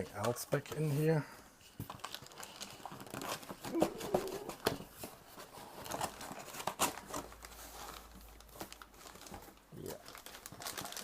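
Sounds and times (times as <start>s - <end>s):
packaging crinkling and tearing: 1.9s - 11.0s.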